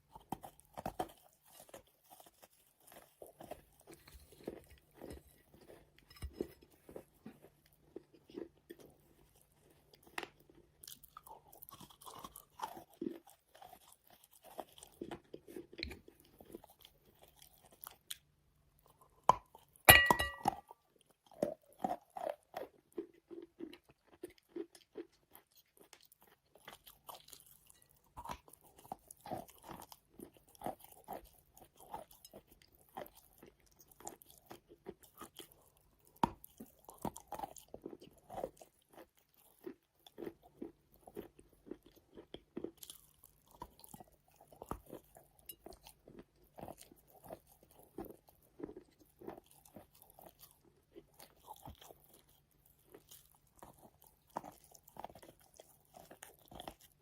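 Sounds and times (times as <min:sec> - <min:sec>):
chewing wet chalk: 0:00.0 - 0:19.9, 0:20.6 - 0:57.0.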